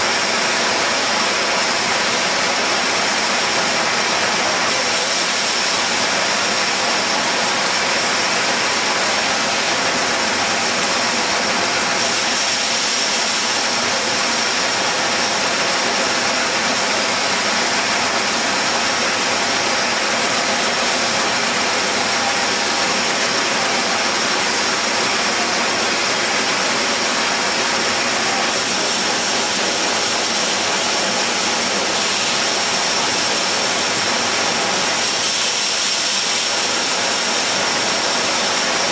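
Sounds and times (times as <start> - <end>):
bottle filler machine hiss and whir: 0.0 - 38.9.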